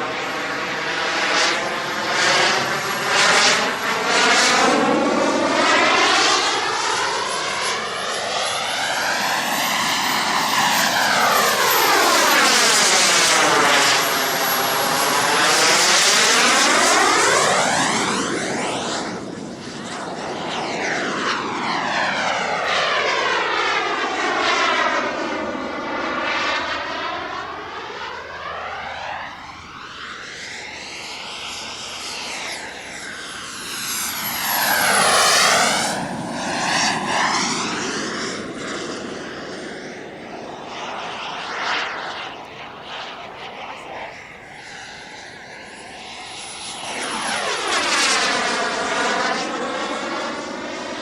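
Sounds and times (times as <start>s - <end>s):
model jet turbine whine: 0.0s - 51.0s.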